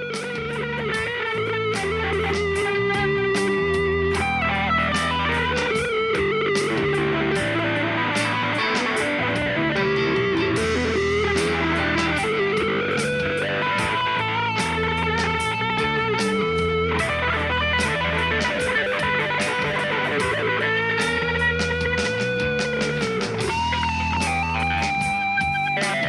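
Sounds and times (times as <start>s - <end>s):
bass notes: 0.0s - 26.0s
electric guitar lead line: 0.0s - 26.0s
drum ticks: 0.1s - 26.0s.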